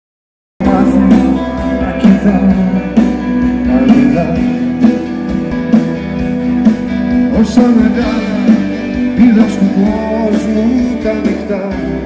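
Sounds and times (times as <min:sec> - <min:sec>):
acoustic guitar: 0:00.6 - 0:12.0
drums: 0:00.6 - 0:12.0
rock band playing live: 0:00.6 - 0:12.0.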